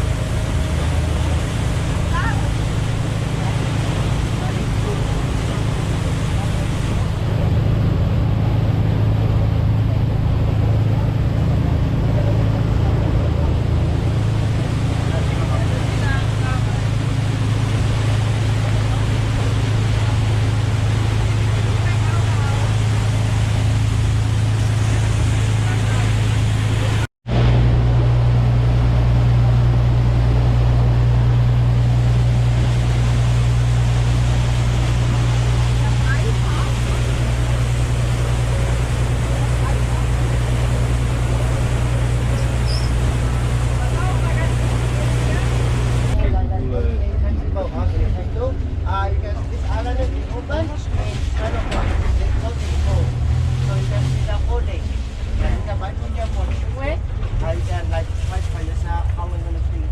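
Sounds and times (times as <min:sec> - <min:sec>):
boat engine humming: 0:00.0 - 0:59.9
water wash noise: 0:00.0 - 0:59.9.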